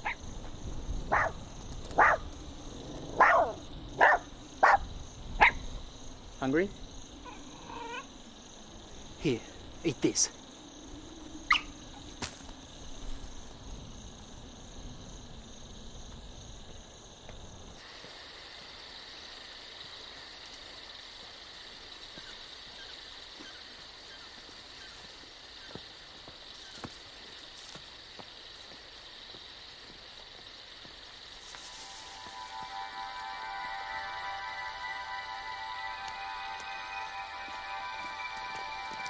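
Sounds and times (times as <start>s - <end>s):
crickets chirping: 0.0s - 39.0s
insect chorus with pulsing trill: 0.0s - 39.0s.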